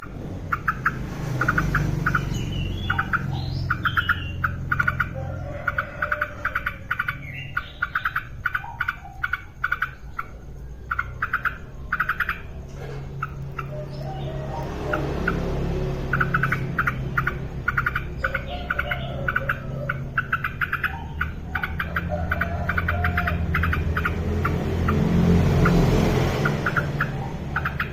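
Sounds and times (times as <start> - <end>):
bulbul chattering calls: 0.0 - 27.9.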